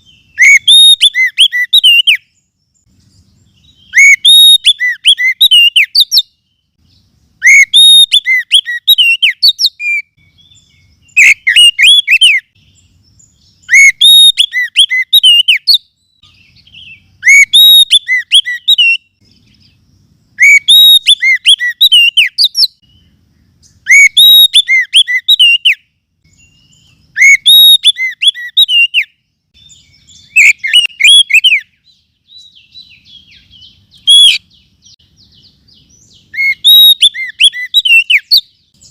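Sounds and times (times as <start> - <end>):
bird whistled song: 0.0 - 38.9.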